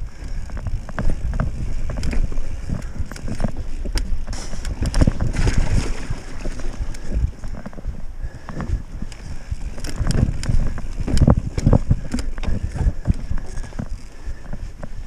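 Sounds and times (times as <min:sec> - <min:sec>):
bike chain and frame rattling: 0:00.0 - 0:15.0
wind buffeting microphone: 0:00.0 - 0:15.0.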